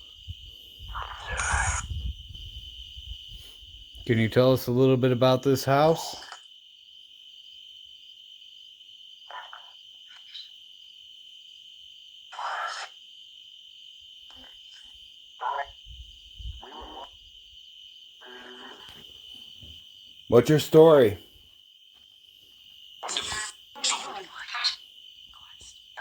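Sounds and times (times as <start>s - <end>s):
night insects chirping: 0.0s - 26.0s.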